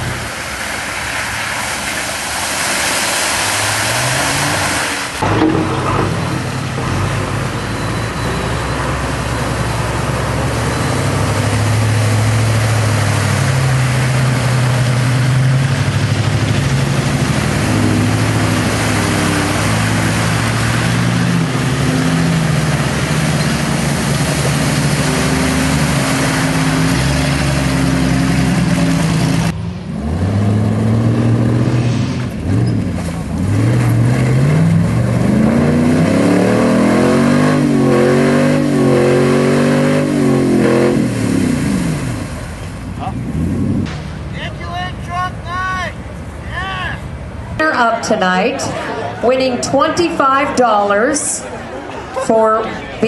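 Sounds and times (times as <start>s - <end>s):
splashing through mud and water: 0.0s - 29.5s, 30.7s - 44.3s
truck engines revving: 0.0s - 53.0s.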